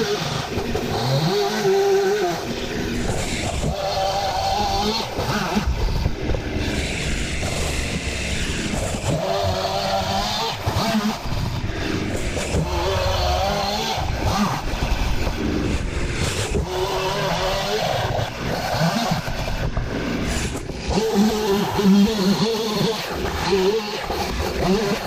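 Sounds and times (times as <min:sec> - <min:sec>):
chainsaw revving and cutting: 0:00.0 - 0:25.0.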